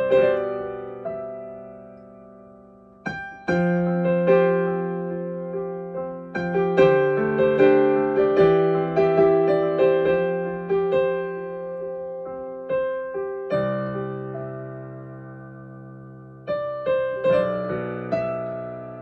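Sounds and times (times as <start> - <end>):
soft solo piano: 0.0 - 19.0.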